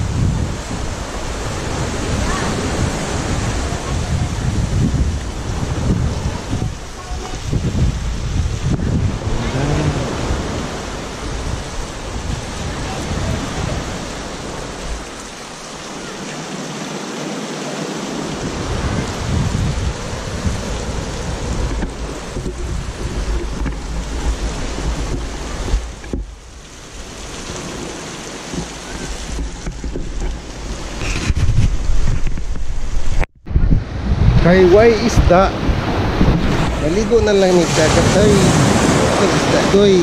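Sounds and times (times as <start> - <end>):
wind buffeting microphone: 0.0 - 16.6, 18.0 - 40.0.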